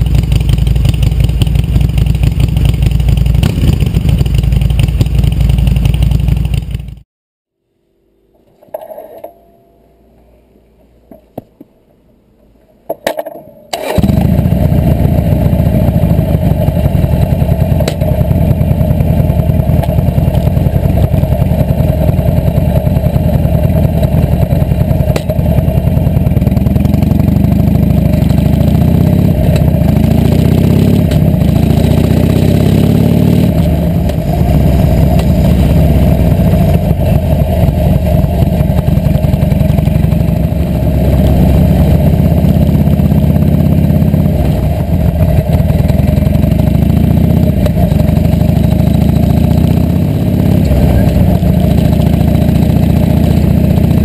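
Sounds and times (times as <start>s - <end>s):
motorcycle engine revving: 0.0s - 7.0s, 13.8s - 54.0s.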